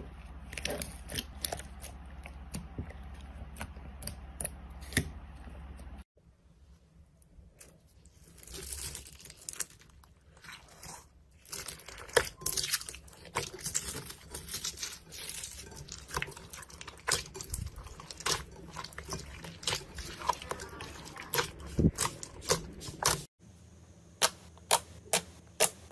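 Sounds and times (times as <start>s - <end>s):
slime squishing: 0.0s - 6.0s, 7.2s - 23.3s.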